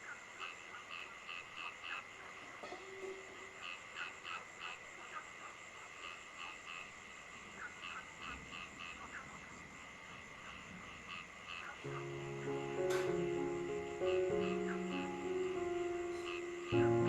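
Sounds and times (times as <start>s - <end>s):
frogs calling: 0.0s - 17.0s.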